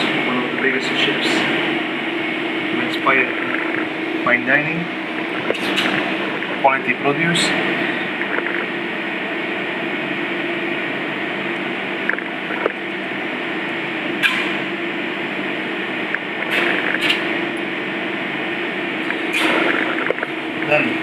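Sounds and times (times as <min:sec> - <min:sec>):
kitchen machine hum: 0:00.0 - 0:21.0.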